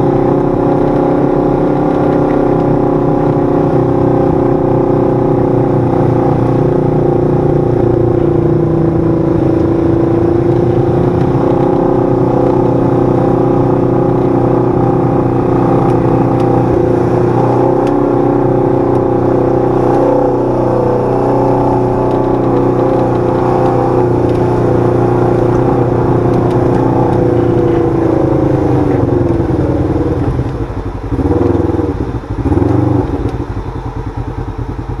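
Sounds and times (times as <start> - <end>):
utility vehicle engine running: 0.0 - 35.0.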